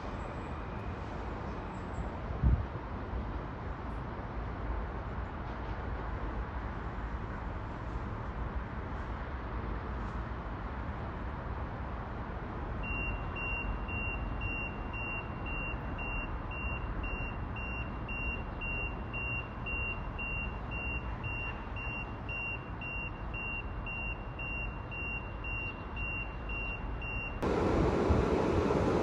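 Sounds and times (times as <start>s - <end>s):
railway and city rumble: 0.0s - 29.0s.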